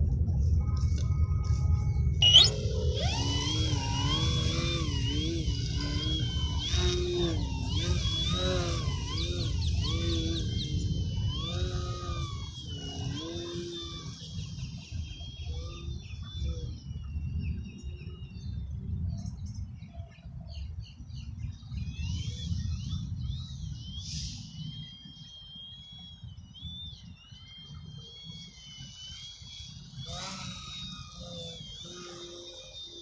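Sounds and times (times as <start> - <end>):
wind rumble on microphone: 0.0 - 32.3
electric model airplane motor whining: 1.7 - 18.4, 21.5 - 33.0.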